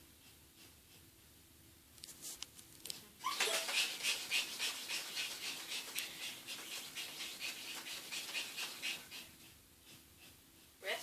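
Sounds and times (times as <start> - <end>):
dog panting: 0.0 - 1.6, 3.3 - 11.0.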